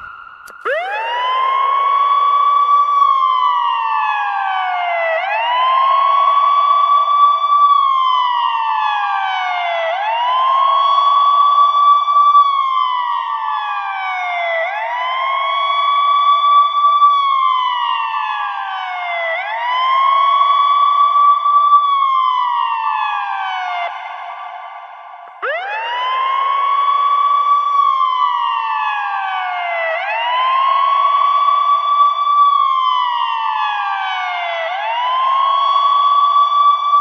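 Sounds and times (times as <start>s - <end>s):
ambulance siren wailing: 0.0s - 37.0s.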